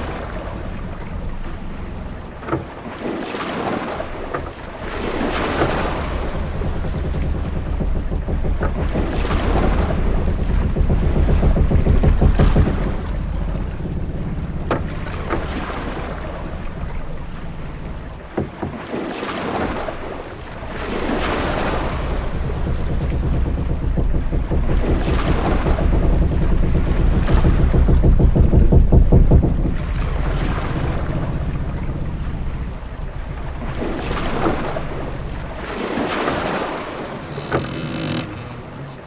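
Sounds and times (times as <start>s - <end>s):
waves washing: 0.0s - 39.0s
sharp knocks of ship: 4.0s - 38.8s
wind rumble: 4.7s - 18.8s, 19.6s - 39.0s.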